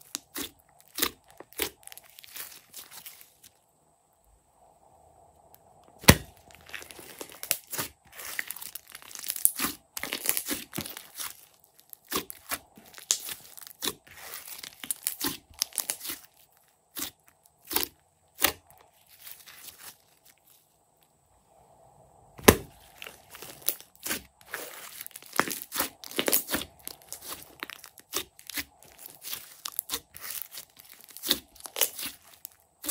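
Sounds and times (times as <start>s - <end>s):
slime squelching and popping: 0.0s - 3.3s, 6.0s - 16.3s, 16.9s - 20.0s, 22.4s - 32.9s.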